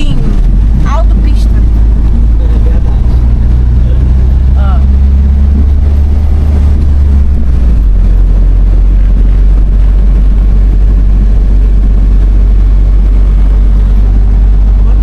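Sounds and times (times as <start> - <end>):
motorhome engine and road noise: 0.0 - 15.0.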